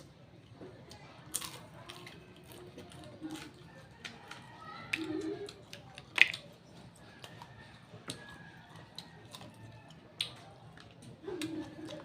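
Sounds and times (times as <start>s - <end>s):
person chewing crunchy vegetables: 0.0s - 12.0s.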